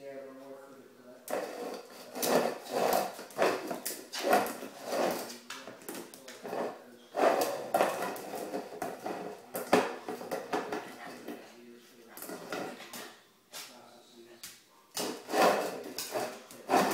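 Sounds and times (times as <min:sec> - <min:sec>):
plastic bowl scraping on tile: 0:01.3 - 0:13.2, 0:15.0 - 0:16.9.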